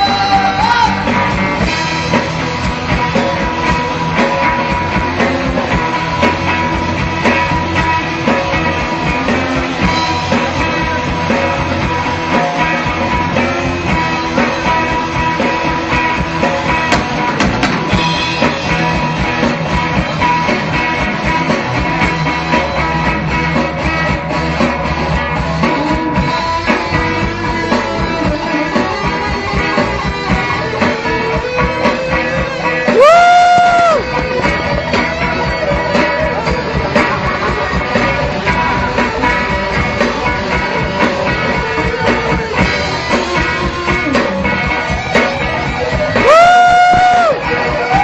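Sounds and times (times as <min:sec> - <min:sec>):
drum kit beat: 0:00.0 - 0:48.0
guitar: 0:00.0 - 0:48.0
rock band playing: 0:00.0 - 0:48.0.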